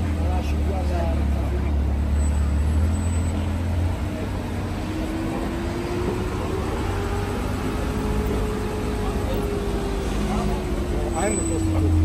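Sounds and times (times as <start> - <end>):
busy street noise: 0.0 - 12.0
car engine rumbling: 0.0 - 12.0.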